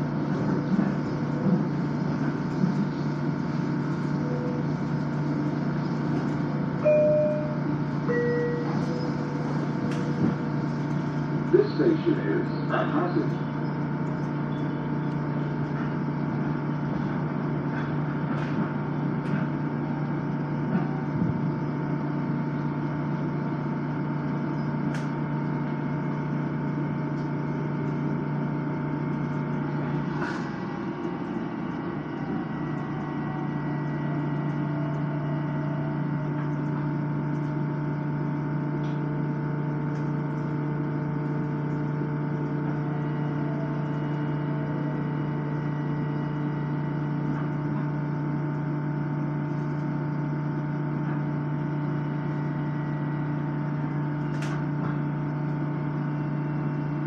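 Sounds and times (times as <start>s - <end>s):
railcar interior hum: 0.0s - 48.0s, 53.8s - 55.0s.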